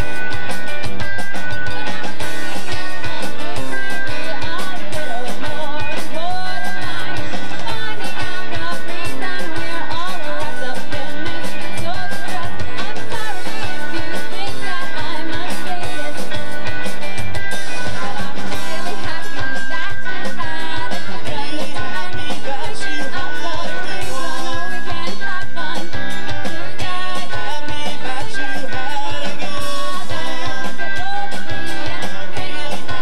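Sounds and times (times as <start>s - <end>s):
live rock band: 0.0s - 33.0s
woman singing: 1.7s - 16.8s, 17.8s - 33.0s.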